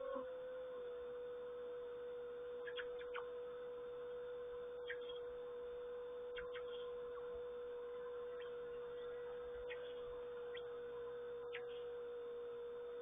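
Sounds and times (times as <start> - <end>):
steady pure hum: 0.0 - 13.0.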